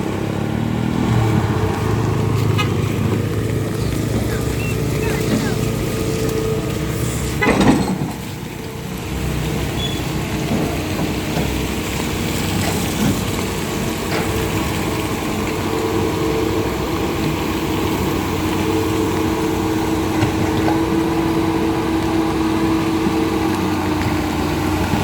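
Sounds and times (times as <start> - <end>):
motor engine running: 0.0 - 25.0.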